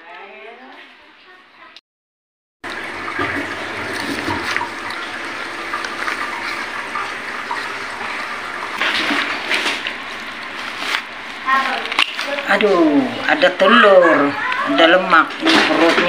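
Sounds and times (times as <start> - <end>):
running water: 2.6 - 16.0.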